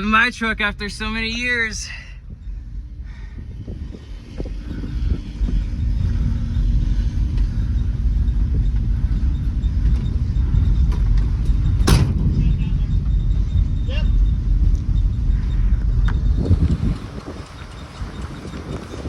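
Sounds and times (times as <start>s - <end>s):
pickup truck engine and road noise: 2.3s - 19.0s.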